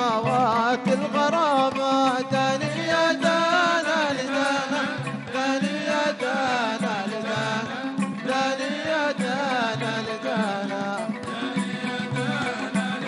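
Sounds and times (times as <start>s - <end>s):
man singing: 0.0s - 13.0s
oud playing: 0.0s - 13.0s.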